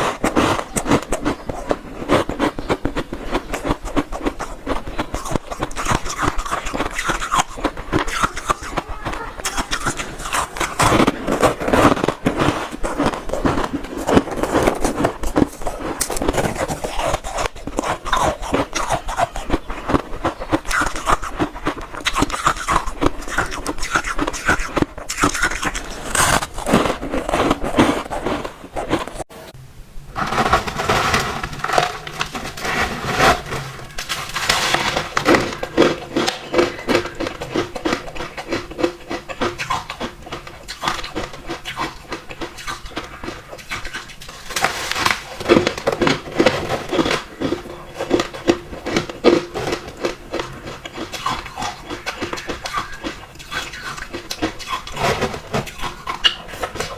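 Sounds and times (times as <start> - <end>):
chewing and crunching ice: 0.0 - 29.3, 30.3 - 56.9.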